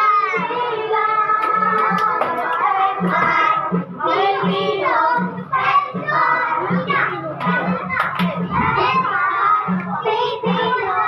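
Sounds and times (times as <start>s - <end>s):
children singing upbeat song: 0.0s - 11.0s
steady beat: 0.0s - 11.0s.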